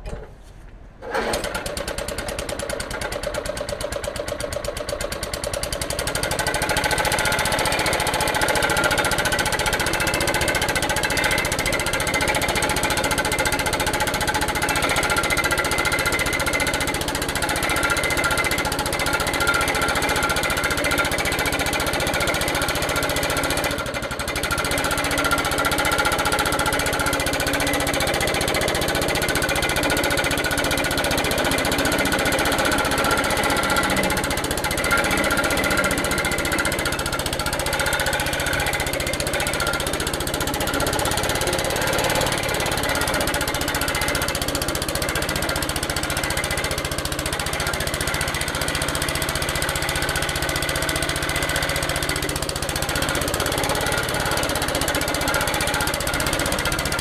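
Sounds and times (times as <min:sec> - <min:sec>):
lawnmower cutting grass: 0:01.0 - 0:57.0.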